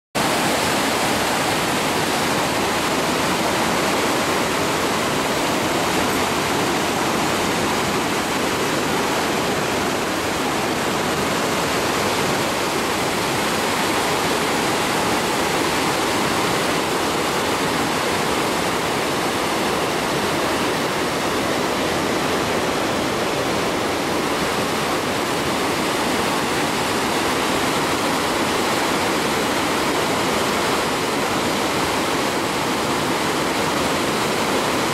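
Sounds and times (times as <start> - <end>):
water rushing over weir: 0.2 - 34.9.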